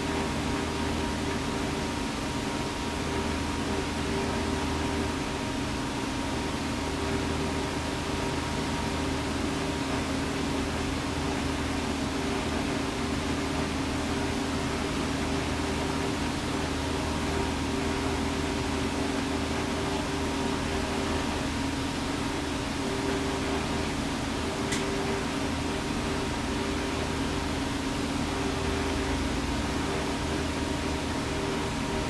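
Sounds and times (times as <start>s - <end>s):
kitchen machinery hum and hiss: 0.0s - 32.0s.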